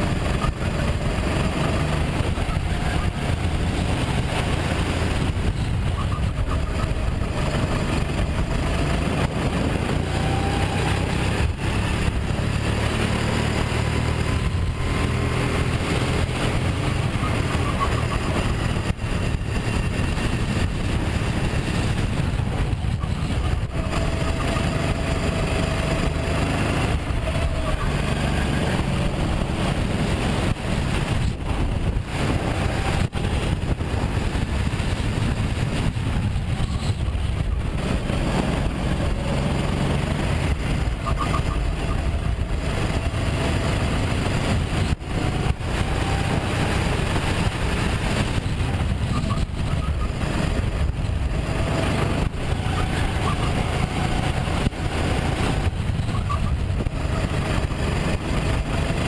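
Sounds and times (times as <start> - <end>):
go-kart engine revving: 0.0 - 59.0
wind and vibration noise: 0.0 - 59.0.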